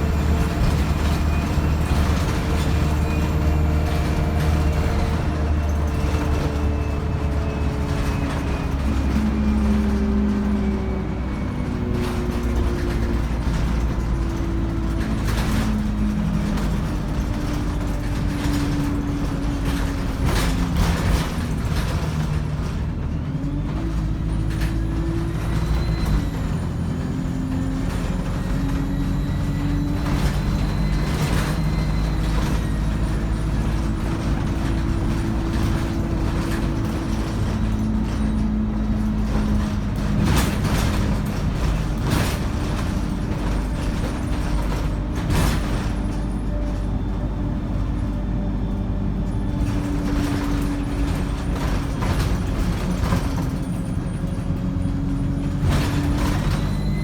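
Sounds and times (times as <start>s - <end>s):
bus diesel engine with turbo whine: 0.0s - 57.0s
knocks and rattles: 0.1s - 57.0s.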